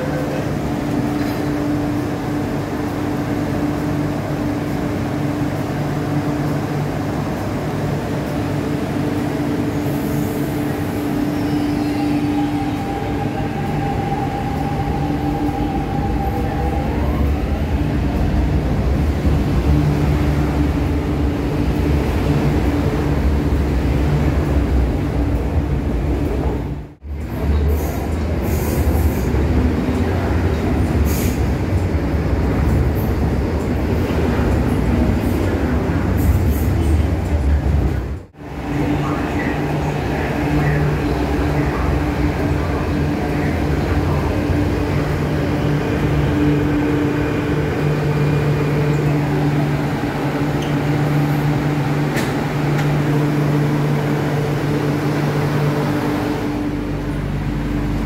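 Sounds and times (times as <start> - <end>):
train pulling out: 0.0 - 58.0.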